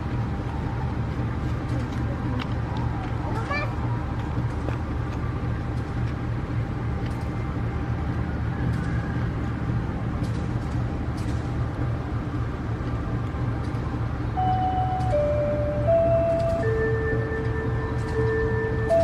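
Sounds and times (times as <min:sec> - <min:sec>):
locomotive engine rumbling: 0:00.0 - 0:19.0.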